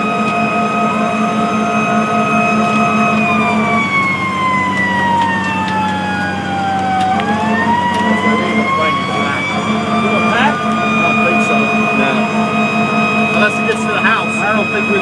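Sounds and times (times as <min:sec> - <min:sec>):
fire engine siren wailing: 0:00.0 - 0:15.0
truck engine running: 0:00.0 - 0:15.0.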